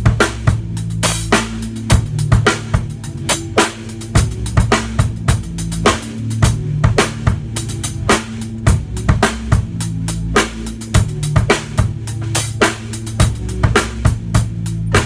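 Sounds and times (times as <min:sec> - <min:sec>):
acoustic drum kit groove: 0:00.0 - 0:15.0.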